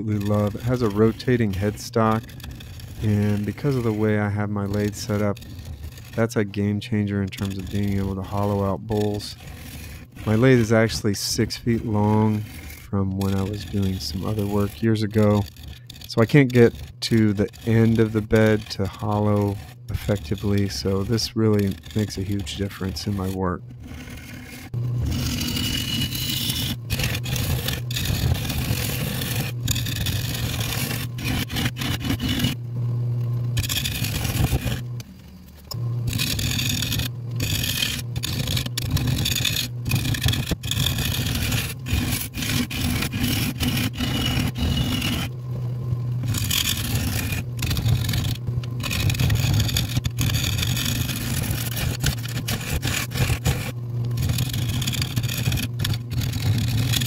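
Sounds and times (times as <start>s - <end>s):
gouge scraping spinning wood: 0.0s - 32.6s, 33.2s - 57.0s
wood lathe humming: 0.0s - 32.6s, 33.4s - 57.0s.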